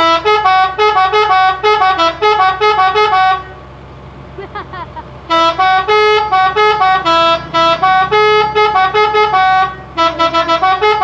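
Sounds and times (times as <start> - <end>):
bus horn playing a tune: 0.0 - 3.7, 4.4 - 11.0.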